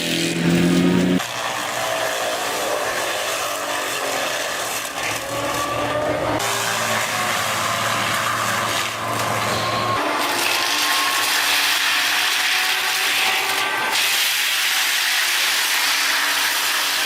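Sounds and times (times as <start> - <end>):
engine hum: 0.0 - 14.0
machine grinding wood: 0.0 - 17.0.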